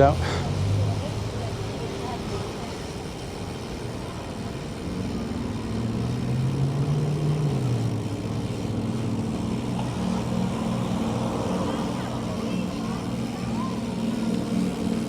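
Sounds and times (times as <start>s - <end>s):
traffic background noise: 0.0s - 15.0s
vehicle engine running: 0.0s - 15.0s.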